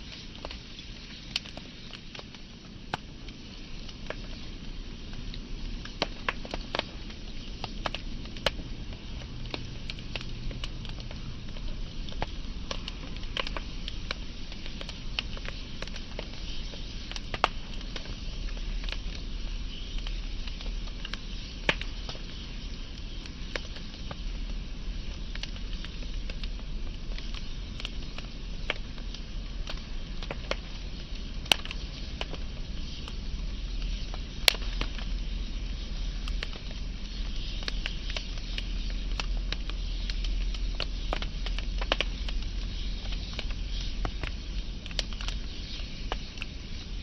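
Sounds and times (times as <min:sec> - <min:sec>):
fire low rumble and hiss: 0:00.0 - 0:47.0
wood fire crackling and popping: 0:00.0 - 0:47.0.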